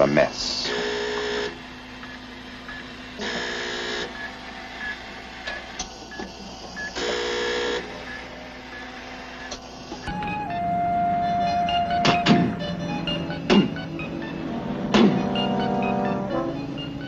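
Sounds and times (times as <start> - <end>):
ventilator hiss and hum: 0.0 - 17.0.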